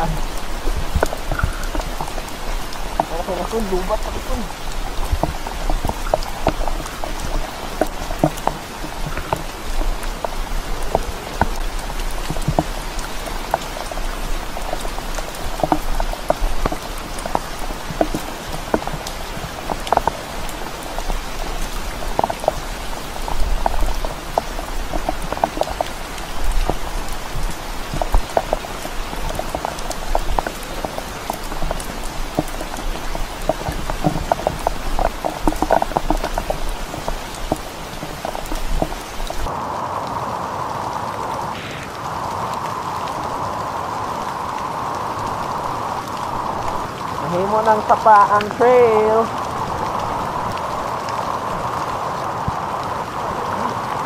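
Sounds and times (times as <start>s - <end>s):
raindrops ticking close by: 0.0s - 54.0s
steady rain in forest: 0.0s - 54.0s.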